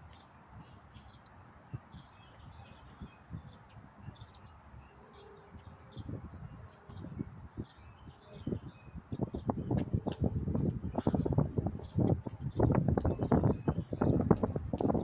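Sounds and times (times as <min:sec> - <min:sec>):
small birds chirping: 0:00.0 - 0:15.0
wind rumble on microphone: 0:01.5 - 0:15.0.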